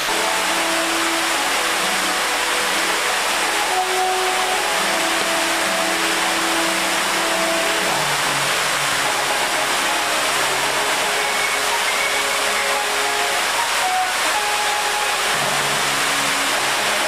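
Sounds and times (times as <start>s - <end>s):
faint held music notes: 0.0s - 17.0s
fountain water rushing: 0.0s - 17.0s.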